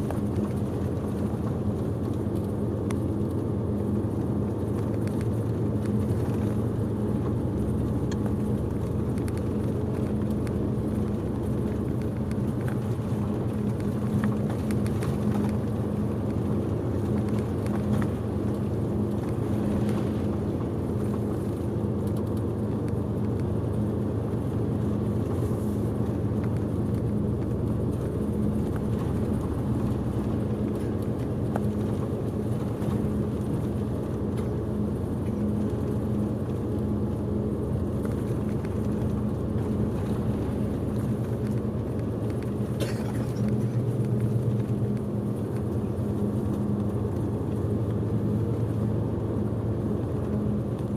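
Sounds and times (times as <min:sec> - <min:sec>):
diesel engine humming: 0:00.0 - 0:50.9
road noise: 0:00.0 - 0:50.9.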